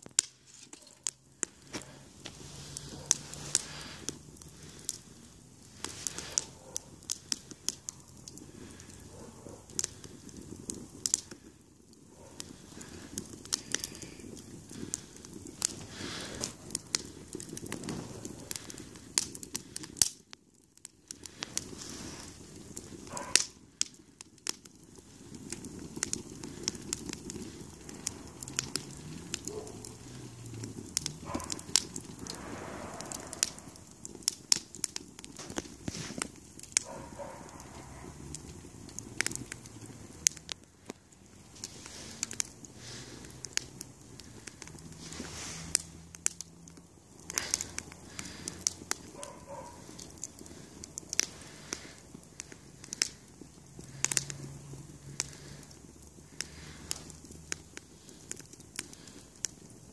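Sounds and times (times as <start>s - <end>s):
fire crackling and popping: 0.0s - 59.9s
low rush of flame: 0.0s - 59.9s.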